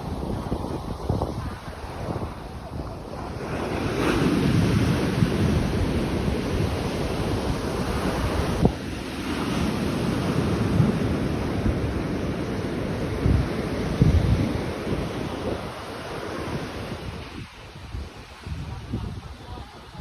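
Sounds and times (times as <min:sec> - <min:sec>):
surf on a beach: 0:00.0 - 0:20.0
wind buffeting microphone: 0:00.0 - 0:20.0.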